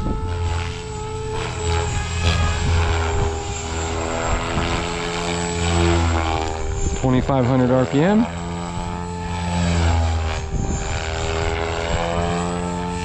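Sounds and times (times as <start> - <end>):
electric motor tones: 0.0 - 13.0
model helicopter rotor hum: 0.0 - 13.0.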